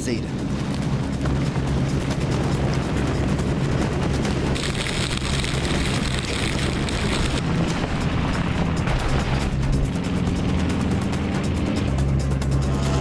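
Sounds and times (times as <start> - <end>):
aircraft engine and propeller drone: 0.0 - 13.0
rushing wind: 0.0 - 13.0.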